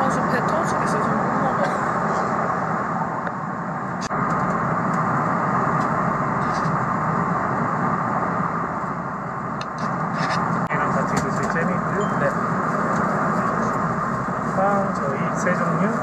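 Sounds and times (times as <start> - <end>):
jet engines and airflow rushing: 0.0 - 16.0.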